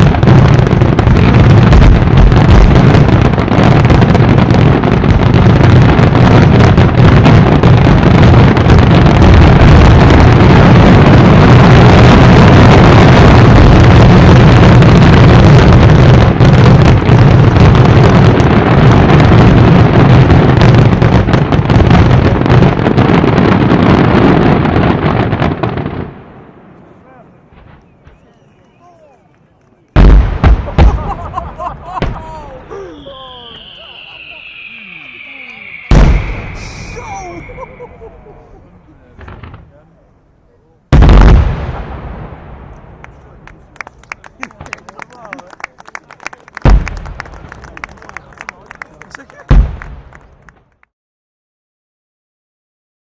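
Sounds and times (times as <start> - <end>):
fireworks barrage rumbling: 0.0 - 50.9
fireworks crackling: 0.0 - 50.9.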